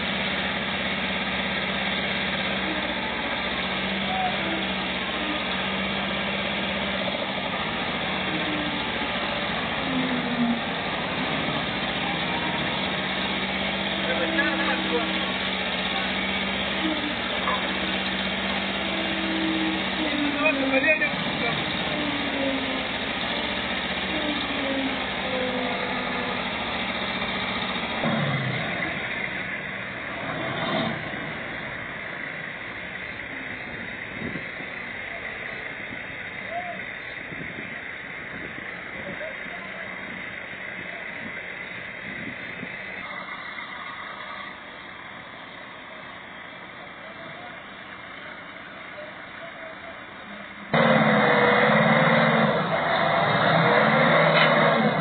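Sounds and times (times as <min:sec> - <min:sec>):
diesel engines running hard: 0:00.0 - 0:55.0.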